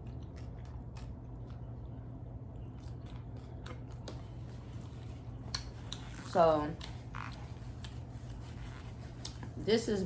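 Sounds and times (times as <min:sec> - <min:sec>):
chewing crunchy food: 0:00.0 - 0:08.4
steady low hum: 0:00.0 - 0:10.0.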